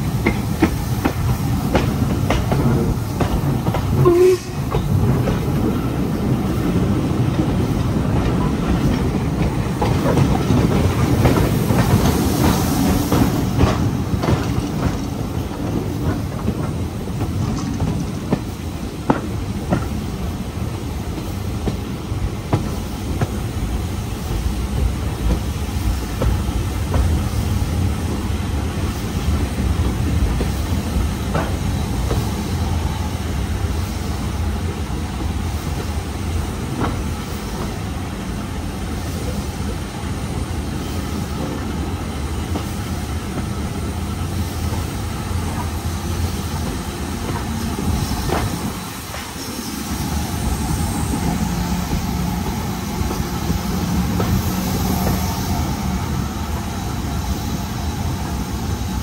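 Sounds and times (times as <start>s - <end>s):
train coaches rumbling on rails: 0.0s - 59.0s.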